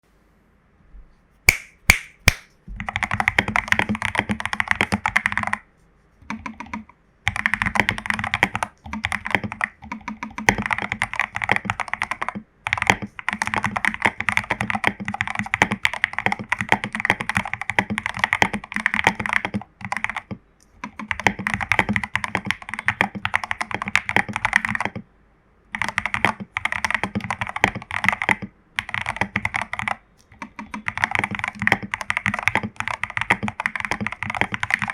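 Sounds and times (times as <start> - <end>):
typing on mechanical keyboard: 2.8 - 5.6, 6.2 - 25.1, 25.7 - 34.9.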